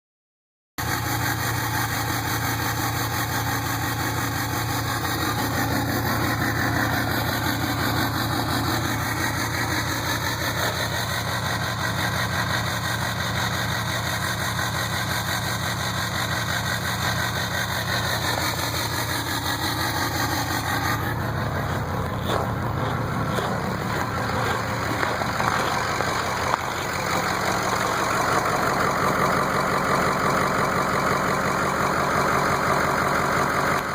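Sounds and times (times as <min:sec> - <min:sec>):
diesel engine idling: 0:00.8 - 0:33.9
sharp engine clicks: 0:00.9 - 0:33.9.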